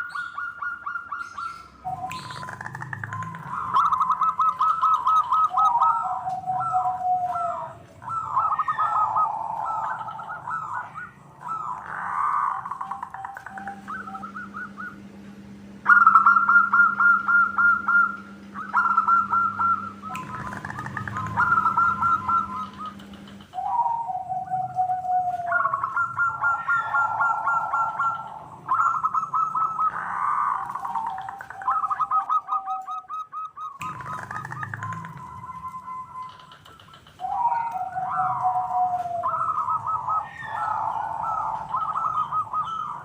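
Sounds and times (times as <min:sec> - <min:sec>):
doves cooing trills: 0:00.0 - 0:43.0
low hum: 0:01.6 - 0:36.8
low falling coo: 0:01.9 - 0:15.2, 0:15.9 - 0:43.0.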